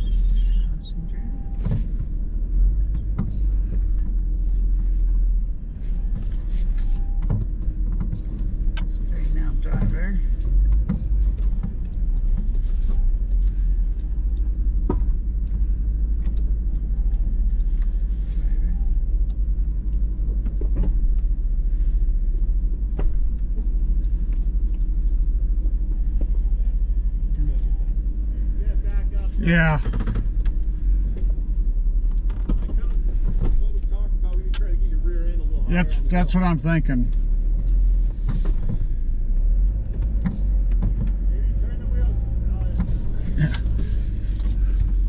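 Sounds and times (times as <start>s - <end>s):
engine running at low speed: 0.0s - 45.0s.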